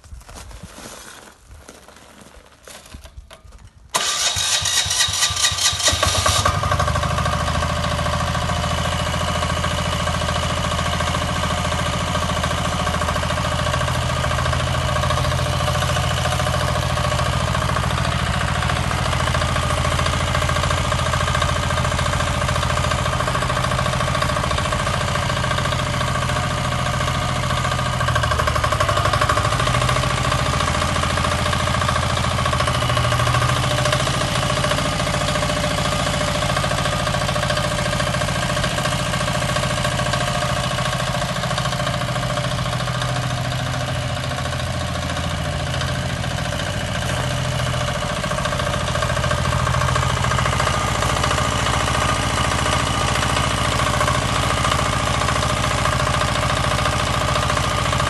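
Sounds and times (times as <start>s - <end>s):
diesel engine cranking and running: 3.1s - 58.0s.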